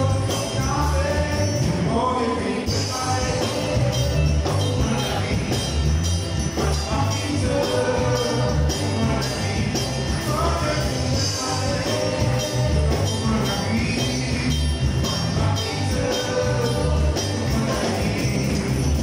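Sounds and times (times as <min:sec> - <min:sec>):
drum beat with cymbals: 0:00.0 - 0:01.9, 0:02.7 - 0:19.0
singers in unison: 0:00.0 - 0:05.9, 0:06.5 - 0:19.0
acoustic guitar: 0:00.0 - 0:19.0
keyboard: 0:00.0 - 0:19.0.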